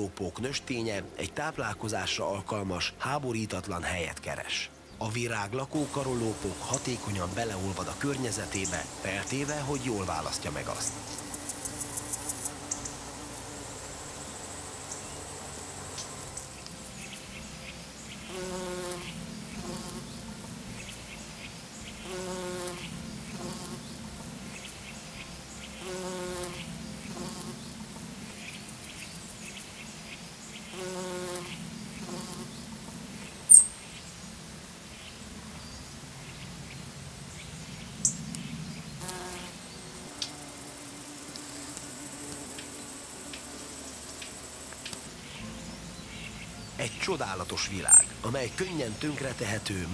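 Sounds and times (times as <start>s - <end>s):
flying insects buzzing: 0.0s - 49.9s.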